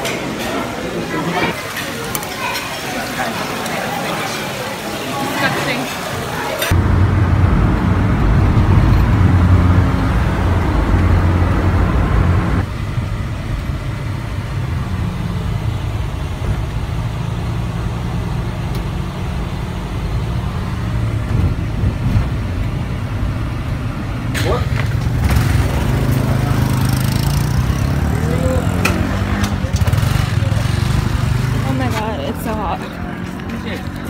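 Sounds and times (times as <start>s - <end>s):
vehicle engine humming: 6.0s - 34.0s.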